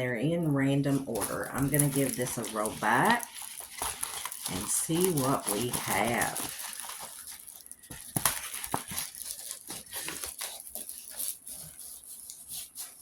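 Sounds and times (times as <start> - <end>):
canvas crinkling and rustling: 0.8 - 13.0.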